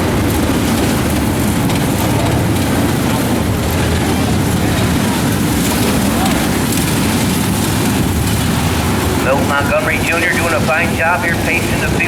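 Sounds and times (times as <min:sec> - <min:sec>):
race car engines running: 0:00.0 - 0:12.0.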